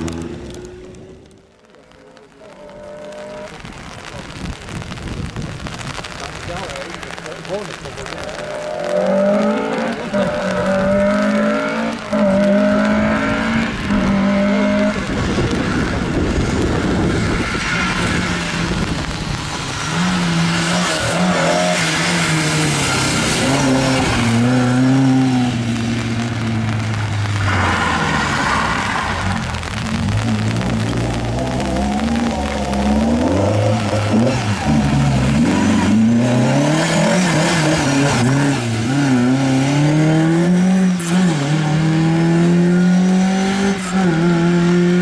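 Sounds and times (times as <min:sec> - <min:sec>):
tyres sliding on gravel: 0:00.0 - 0:40.1
tyres rushing on wet tarmac: 0:00.0 - 0:45.0
rally car engine revving: 0:02.2 - 0:04.9, 0:05.7 - 0:45.0.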